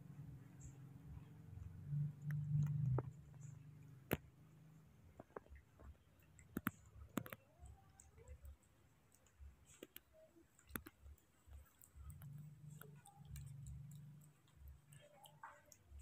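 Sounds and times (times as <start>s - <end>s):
monkeys chewing food: 0.6s - 16.0s.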